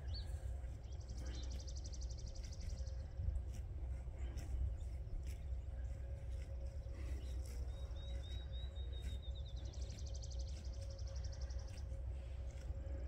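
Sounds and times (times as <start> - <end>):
faint hum: 0.0 - 13.0
low steady rumble: 0.0 - 13.0
songbird chirping and trilling: 0.0 - 13.0.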